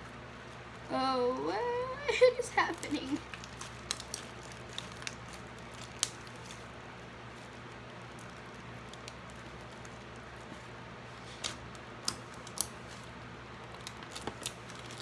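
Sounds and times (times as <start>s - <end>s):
low steady room hum: 0.0s - 15.0s
slime squishing by hand: 2.6s - 15.0s.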